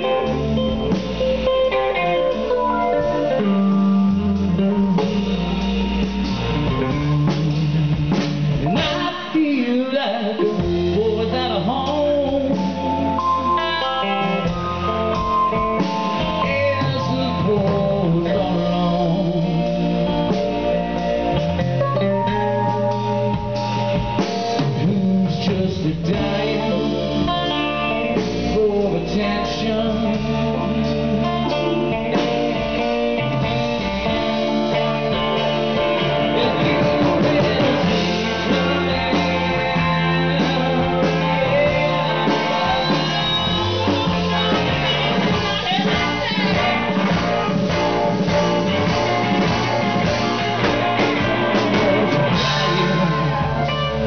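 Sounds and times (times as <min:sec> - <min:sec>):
bass guitar: 0:00.0 - 0:54.0
drums: 0:00.0 - 0:54.0
electric guitars: 0:00.0 - 0:54.0.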